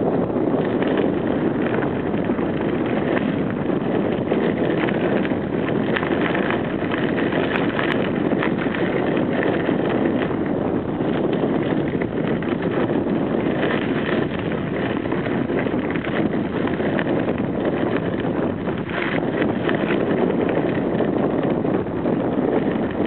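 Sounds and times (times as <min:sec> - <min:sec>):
wind buffeting microphone: 0:00.0 - 0:23.0
bicycle tyres crunching on gravel: 0:00.1 - 0:23.0
small rattles and clicks: 0:00.3 - 0:23.0.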